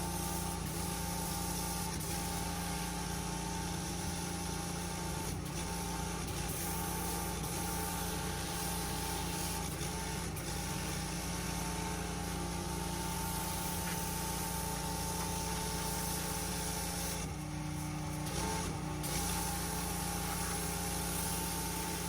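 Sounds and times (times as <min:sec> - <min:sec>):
high-pressure water spray hiss: 0:00.0 - 0:22.0
pressure washer engine running: 0:00.0 - 0:22.0.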